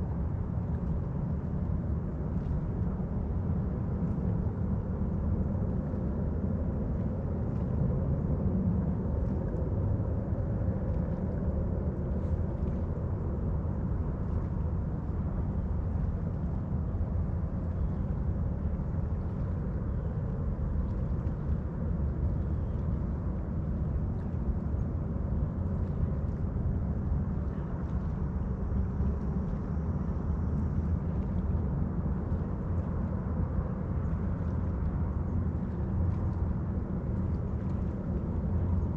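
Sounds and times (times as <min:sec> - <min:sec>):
low outdoor rumble: 0:00.0 - 0:38.9.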